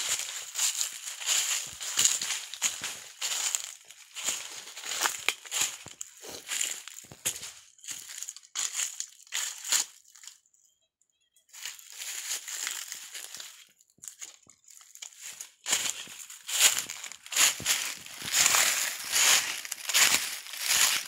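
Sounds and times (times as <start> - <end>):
footsteps on dry leaves: 0.0 - 10.3, 11.5 - 21.0.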